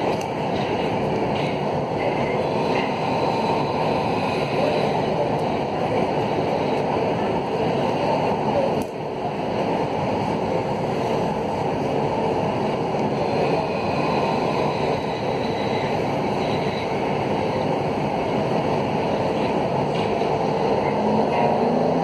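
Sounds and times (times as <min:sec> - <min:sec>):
metro train wheels rumbling on rail: 0:00.0 - 0:22.0.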